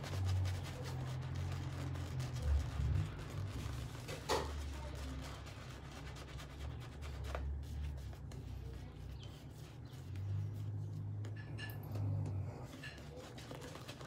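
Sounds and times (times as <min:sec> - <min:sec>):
shaving brush scratching lather: 0:00.0 - 0:11.2, 0:12.6 - 0:14.0.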